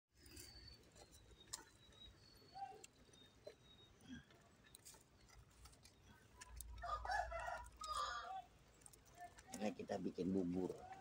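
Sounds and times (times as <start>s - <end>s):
wood fire crackling: 0.2s - 11.0s.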